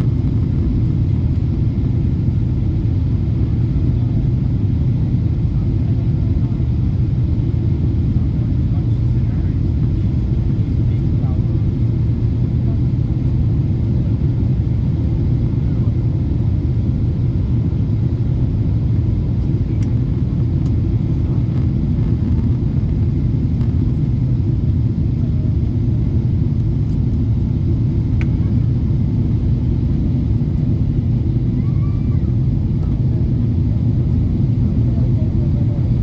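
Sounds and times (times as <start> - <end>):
aircraft cabin engine rumble: 0.0 - 36.0.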